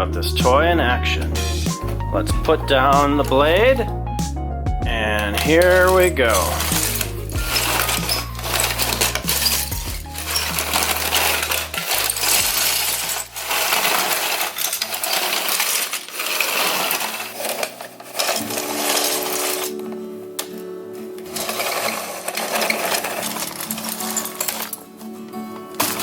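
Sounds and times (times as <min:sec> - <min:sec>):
small hard objects clattering: 0:00.4 - 0:04.0, 0:04.9 - 0:26.0.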